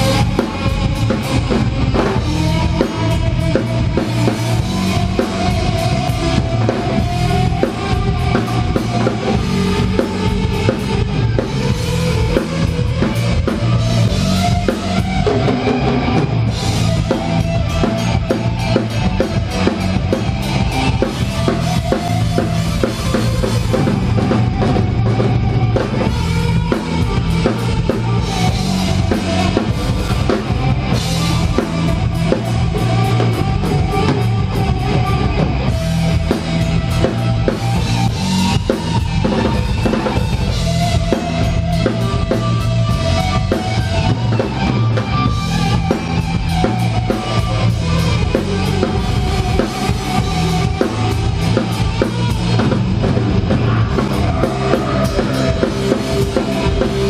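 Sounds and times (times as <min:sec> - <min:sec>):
heavy metal band playing: 0:00.0 - 0:57.0.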